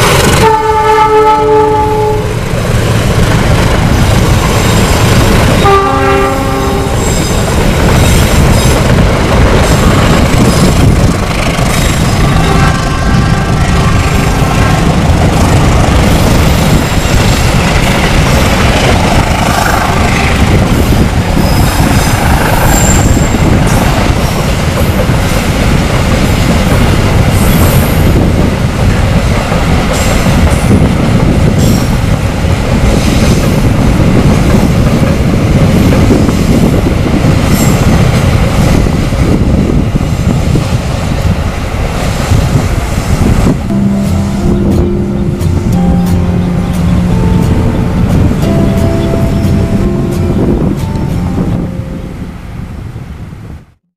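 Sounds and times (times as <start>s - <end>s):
train wagons rumbling on rails: 0.0s - 53.8s.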